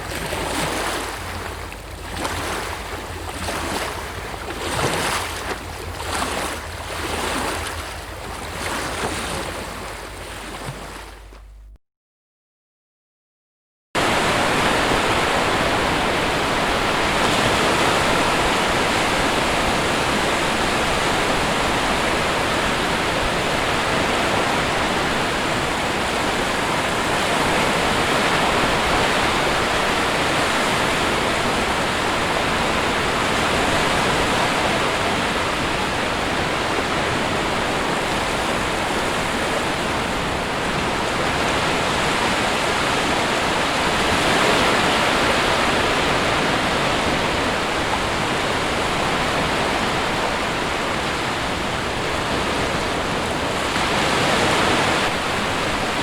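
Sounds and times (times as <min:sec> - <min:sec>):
surf washing onto shore: 0:00.0 - 0:11.6, 0:14.0 - 0:56.0.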